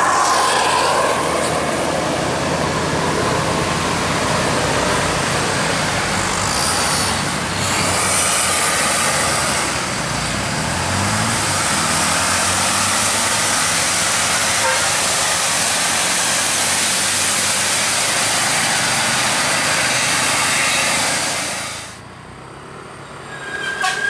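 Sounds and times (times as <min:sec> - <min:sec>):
large vehicle engine passing: 0:00.0 - 0:22.0.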